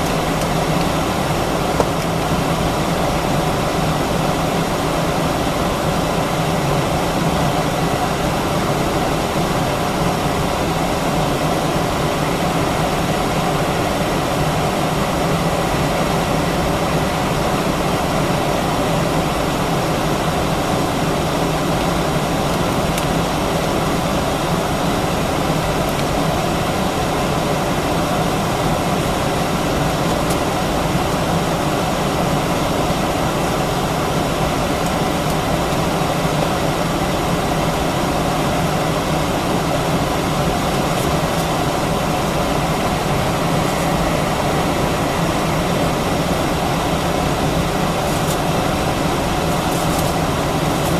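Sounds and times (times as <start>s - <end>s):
airliner cabin drone: 0.0s - 50.9s
faint steady whine: 0.0s - 50.9s.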